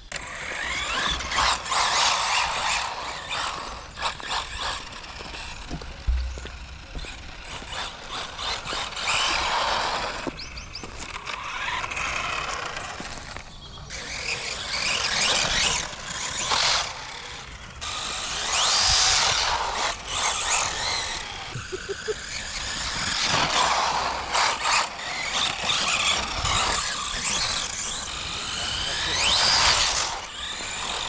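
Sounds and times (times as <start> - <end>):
toy car motor whining: 0.0 - 31.0
tyres churning on rough ground: 0.0 - 31.0.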